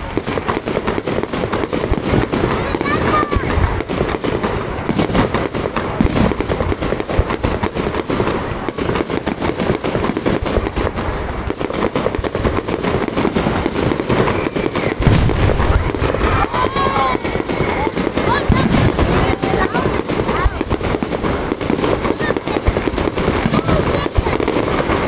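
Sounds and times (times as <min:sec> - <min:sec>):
deep firework boom: 0:00.0 - 0:25.0
fireworks bursting and crackling: 0:00.0 - 0:25.0.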